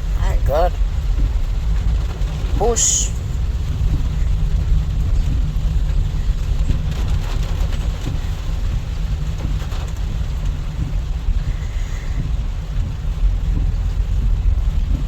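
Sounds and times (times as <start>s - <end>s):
car engine and tyres rumbling: 0.0s - 15.0s
heavy rain on a car: 0.0s - 15.0s.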